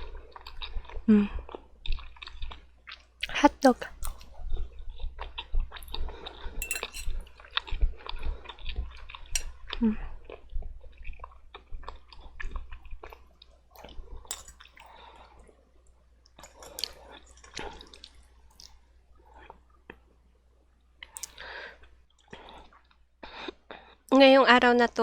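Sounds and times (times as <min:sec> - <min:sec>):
wet chewing and mouth sounds: 0:00.0 - 0:20.1, 0:21.0 - 0:24.0.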